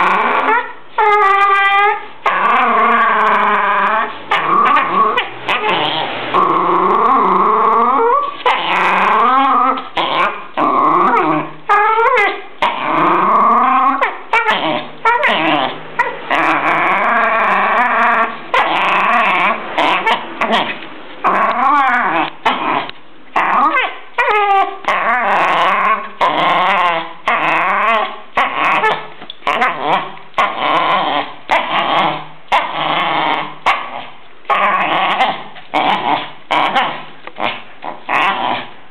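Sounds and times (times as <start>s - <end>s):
dog growling and whining: 0.0s - 38.8s.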